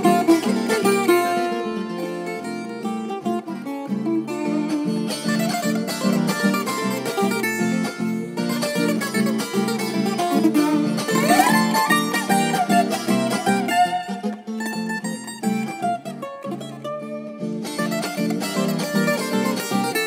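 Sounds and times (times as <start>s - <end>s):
classical guitar strumming: 0.0s - 20.0s
plucked string instrument melody: 0.0s - 20.0s.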